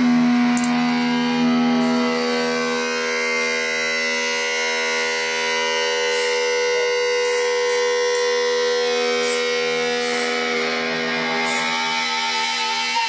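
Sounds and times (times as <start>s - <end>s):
distorted electric guitar note: 0.0s - 13.0s.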